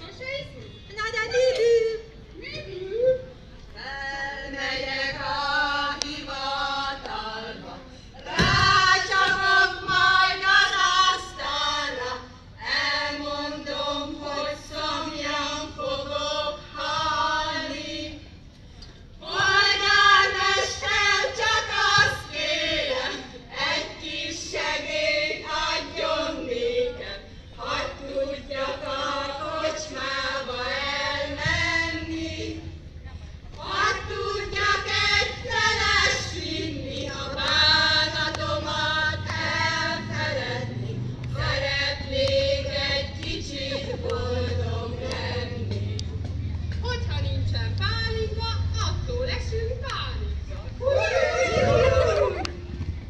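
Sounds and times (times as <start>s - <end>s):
women singing unaccompanied: 1.2s - 18.4s, 19.1s - 46.4s.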